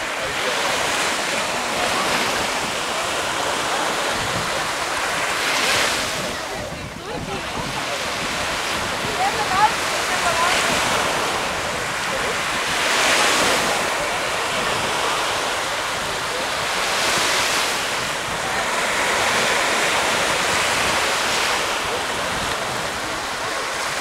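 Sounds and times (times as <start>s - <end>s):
waves washing onto beach: 0.0s - 24.0s
wind buffeting microphone: 0.0s - 24.0s.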